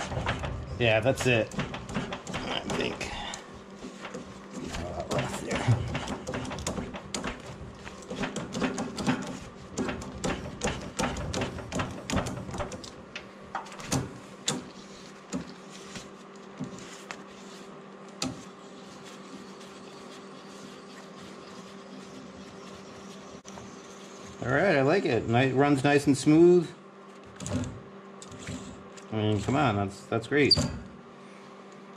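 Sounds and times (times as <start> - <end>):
steady hum: 0.0 - 31.9.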